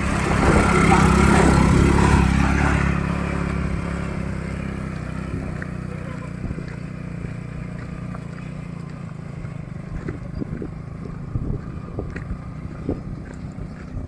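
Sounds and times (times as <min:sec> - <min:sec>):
single-cylinder engine running: 0:00.0 - 0:14.0.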